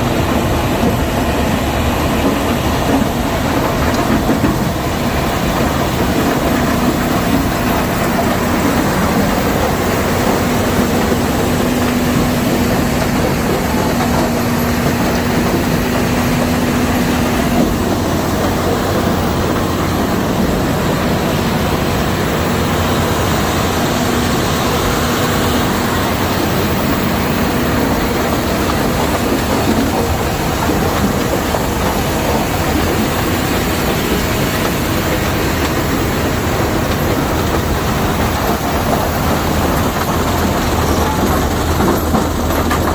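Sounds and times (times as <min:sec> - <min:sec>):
crusher plant mechanical din: 0:01.9 - 0:42.9.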